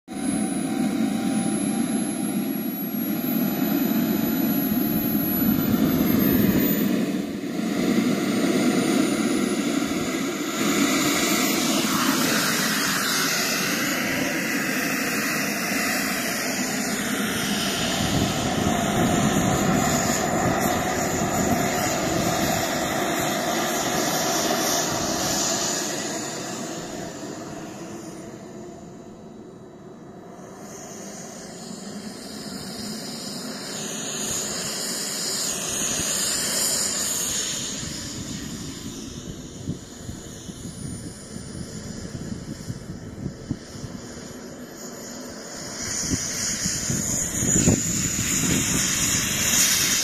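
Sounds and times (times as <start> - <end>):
jet turbine whine: 0.0 - 50.0.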